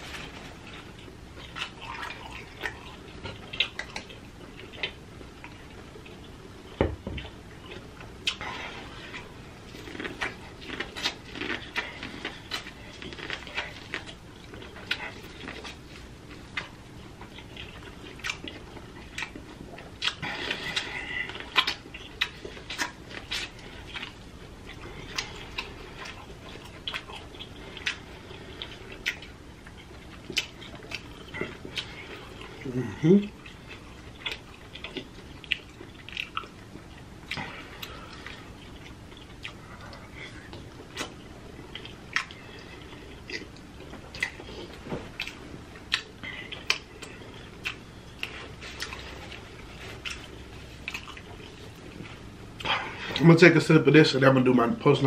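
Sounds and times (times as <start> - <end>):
person chewing food: 0.0 - 53.3.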